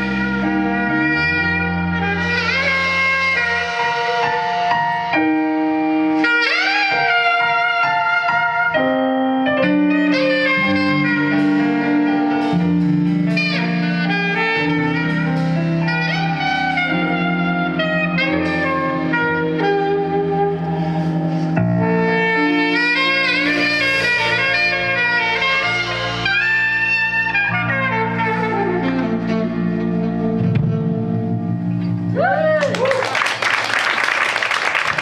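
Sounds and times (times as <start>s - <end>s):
saxophone solo: 0.0s - 32.9s
keyboard and bass accompaniment: 0.0s - 33.9s.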